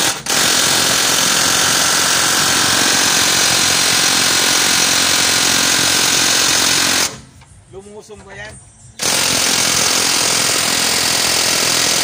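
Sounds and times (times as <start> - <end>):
impact wrench hammering: 0.0 - 7.2, 9.0 - 12.0.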